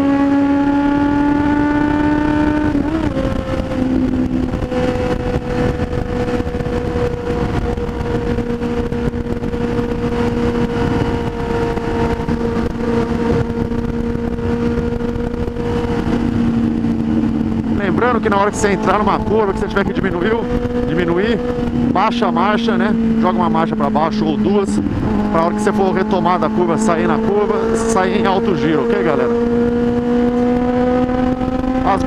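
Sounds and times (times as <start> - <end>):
motorcycle engine running: 0.0 - 32.0
wind noise: 0.0 - 32.0.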